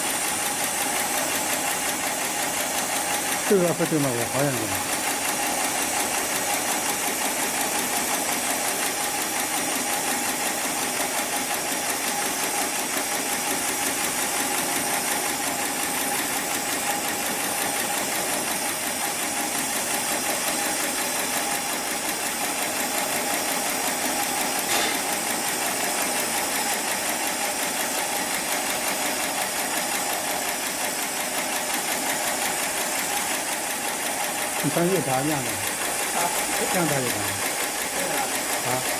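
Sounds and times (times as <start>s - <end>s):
sewing machine running: 0.0s - 38.9s.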